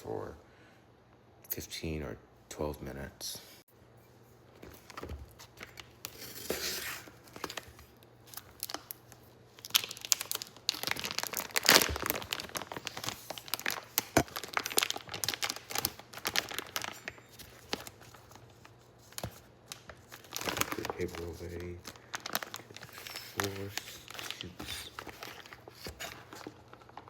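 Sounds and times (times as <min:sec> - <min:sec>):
plastic packaging crinkling: 0:04.7 - 0:27.0.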